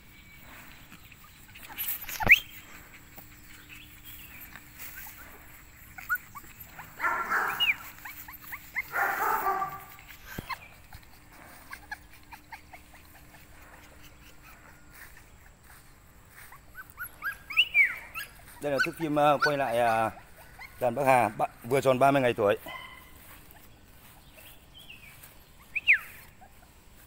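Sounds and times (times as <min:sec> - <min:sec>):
puppies whimpering and yipping: 0:00.3 - 0:27.0.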